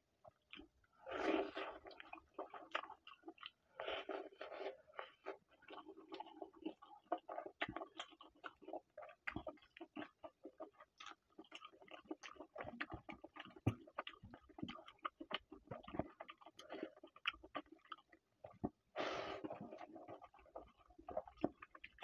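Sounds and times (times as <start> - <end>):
person chewing food: 0.2 - 22.0.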